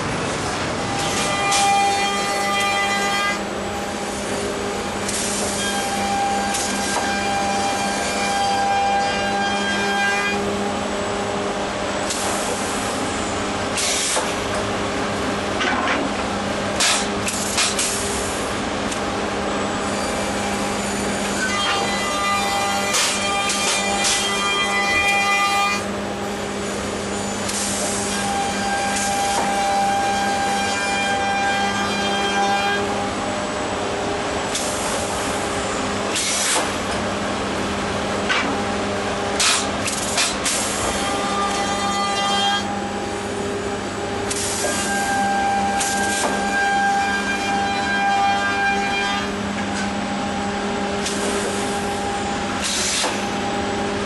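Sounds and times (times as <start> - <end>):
conveyor motors humming: 0.0 - 54.0.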